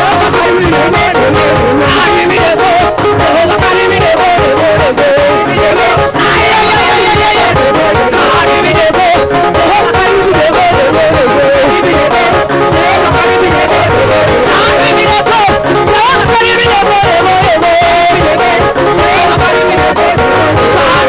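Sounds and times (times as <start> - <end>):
live worship band music: 0.0 - 21.0.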